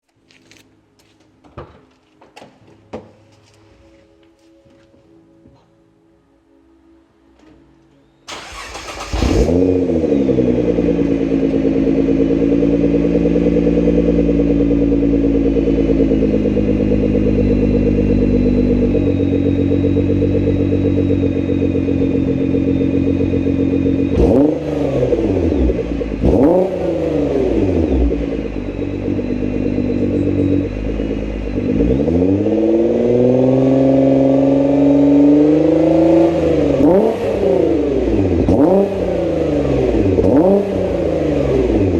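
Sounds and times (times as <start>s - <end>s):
car engine idling and revving: 8.3s - 41.9s.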